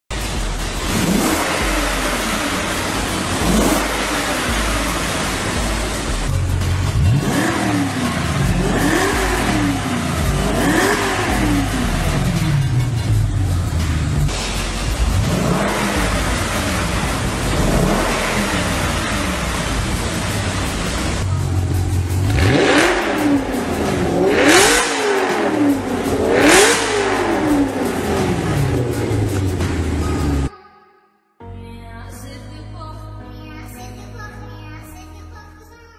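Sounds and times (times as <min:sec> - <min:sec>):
car engine revving: 0:00.1 - 0:30.5.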